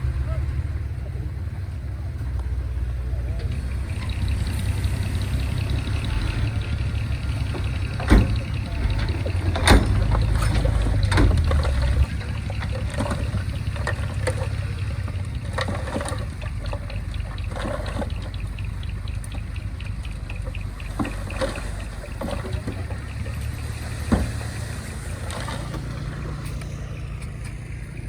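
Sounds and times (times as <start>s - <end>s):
bulldozer diesel engine running: 0.0s - 28.0s
metal clanks and knocks: 3.4s - 28.0s.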